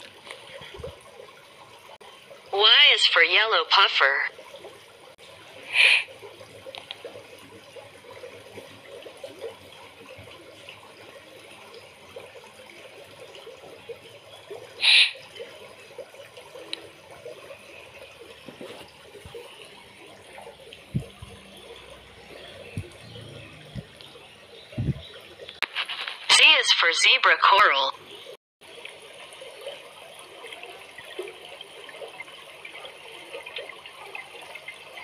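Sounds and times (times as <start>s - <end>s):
underwater water wash: 0.0s - 35.0s.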